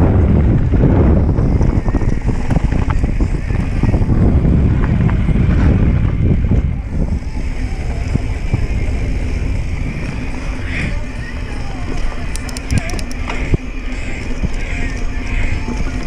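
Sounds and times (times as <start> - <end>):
bike tyres on dirt: 0.0 - 16.0
wind buffeting microphone: 0.0 - 16.0.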